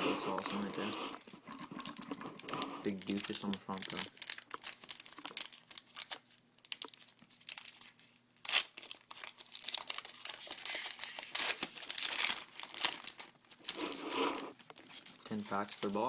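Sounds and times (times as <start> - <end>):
plastic wrapper crinkling and tearing: 0.2 - 16.0.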